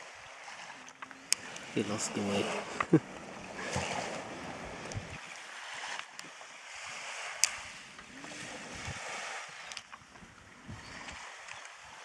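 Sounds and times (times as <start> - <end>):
surf rushing: 0.0 - 9.8
wind: 0.0 - 12.0.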